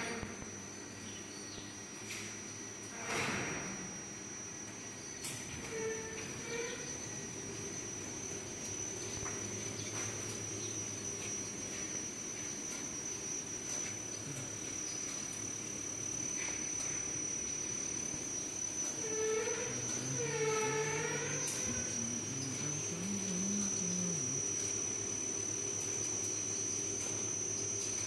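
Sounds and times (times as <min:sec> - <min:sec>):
machine motors humming: 0:00.0 - 0:28.0
thin high whine: 0:00.0 - 0:28.0.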